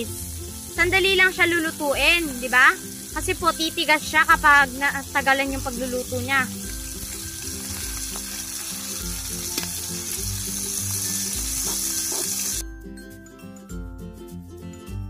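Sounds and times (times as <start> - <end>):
seafood sizzling in hot oil: 0.0 - 12.6
background music: 0.0 - 15.0.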